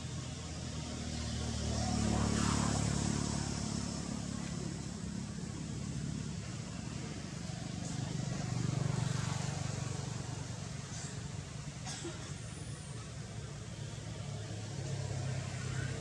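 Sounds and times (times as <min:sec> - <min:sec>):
passing vehicles engine rumble: 0:00.0 - 0:16.0.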